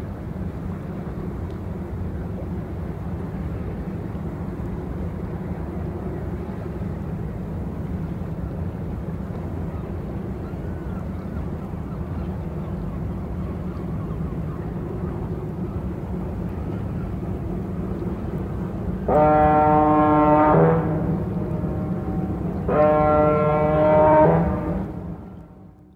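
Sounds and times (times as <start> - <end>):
harbour ambience: 0.0 - 25.9
low engine rumble: 0.0 - 25.9.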